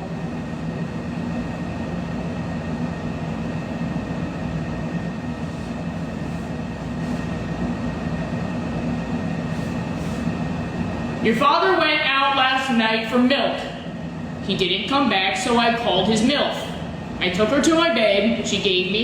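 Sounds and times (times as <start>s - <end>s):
machine low hum: 0.0s - 19.0s.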